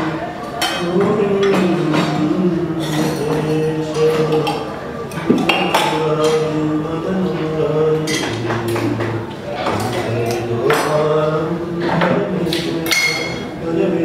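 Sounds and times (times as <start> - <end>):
chant-like devotional music: 0.0 - 14.0.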